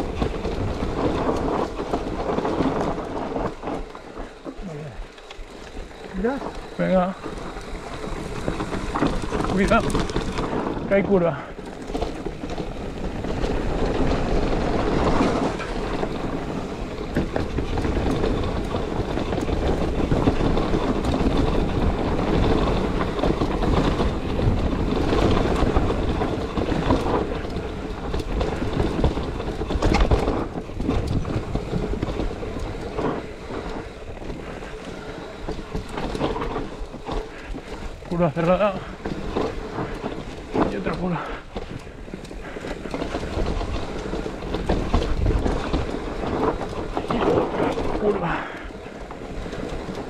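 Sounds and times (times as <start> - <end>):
bike rattling: 0.0 - 50.0
bike tyres rolling over rough ground: 0.0 - 50.0
wind on microphone: 0.0 - 50.0.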